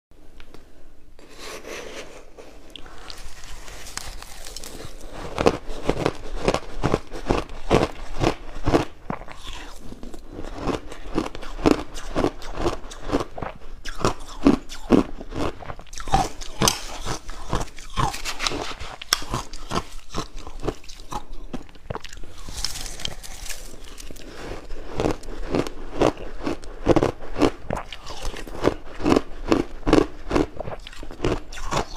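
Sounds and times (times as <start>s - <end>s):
crunching frozen ice: 2.8s - 31.9s.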